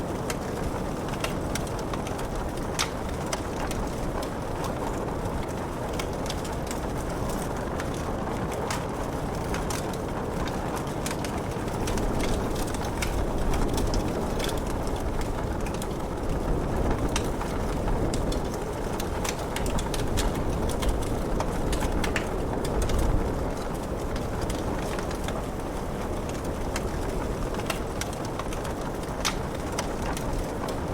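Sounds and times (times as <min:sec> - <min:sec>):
wood fire crackling: 0:00.0 - 0:30.9
fire pops and snaps: 0:00.2 - 0:30.9.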